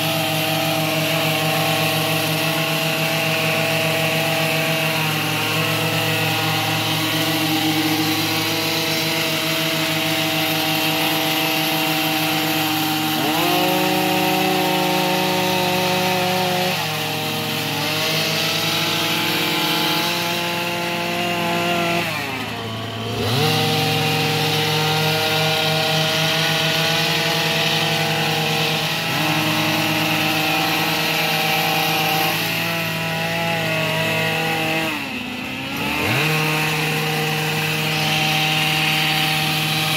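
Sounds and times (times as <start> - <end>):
hedge trimmer engine running: 0.0 - 39.9.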